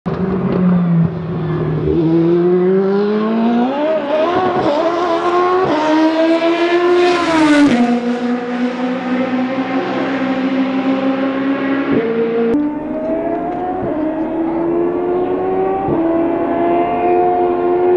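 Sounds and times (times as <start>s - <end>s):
race car engine accelerating through gears: 0.1s - 17.9s.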